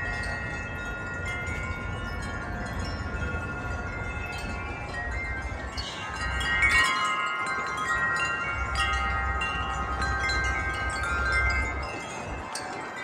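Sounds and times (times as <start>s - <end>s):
wind chimes ringing: 0.0s - 13.0s
wind rumbling on microphone: 0.0s - 13.0s.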